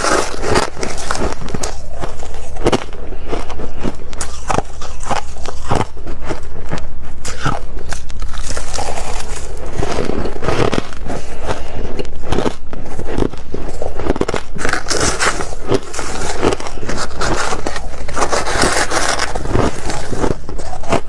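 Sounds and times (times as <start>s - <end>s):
chewing crunchy frost: 0.0s - 21.0s.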